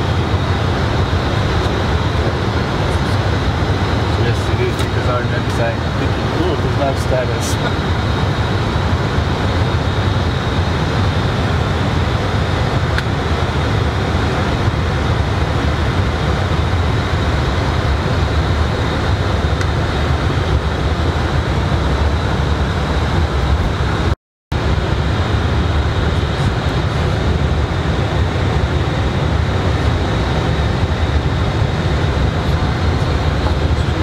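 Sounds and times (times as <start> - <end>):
aircraft engine and airflow rumble: 0.0 - 34.0
faint high whine: 0.0 - 34.0.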